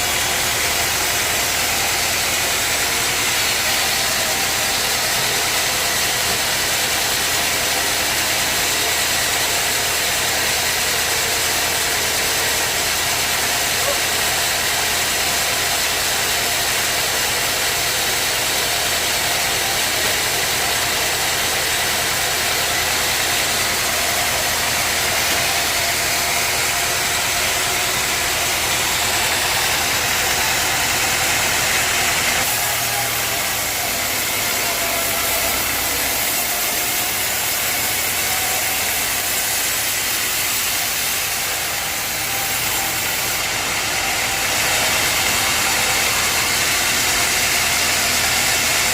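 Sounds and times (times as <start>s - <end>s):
sawmill machinery running: 0.0s - 48.9s.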